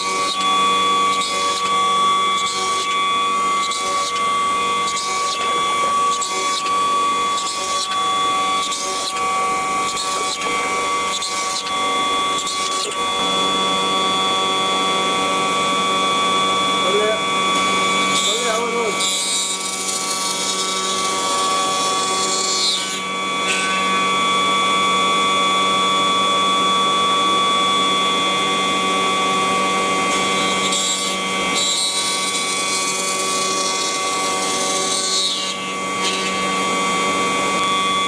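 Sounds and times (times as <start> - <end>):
router spindle whine: 0.0 - 38.0.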